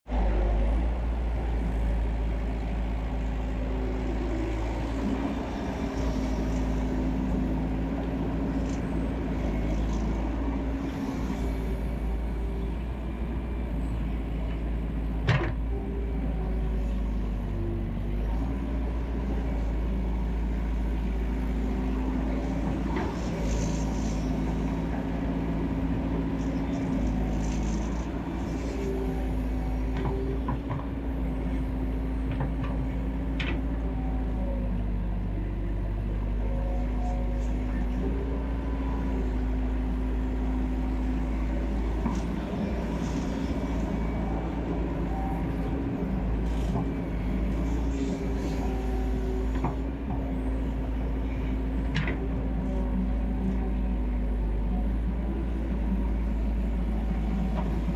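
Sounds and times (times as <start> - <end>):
excavator diesel engine running: 0.1 - 57.9.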